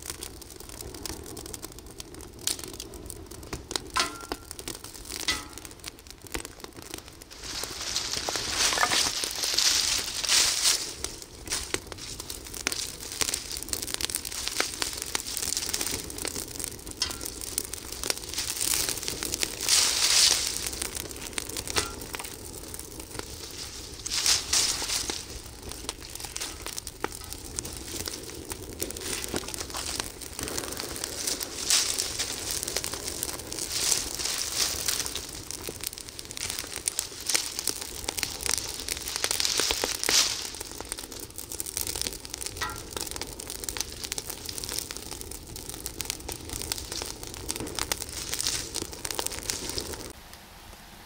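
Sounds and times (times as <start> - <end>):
fire crackling and hissing: 0.0 - 51.0.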